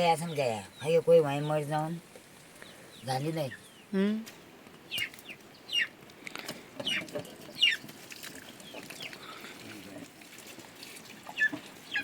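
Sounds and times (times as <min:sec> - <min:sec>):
birds chirping: 0:00.0 - 0:10.2, 0:11.2 - 0:12.0.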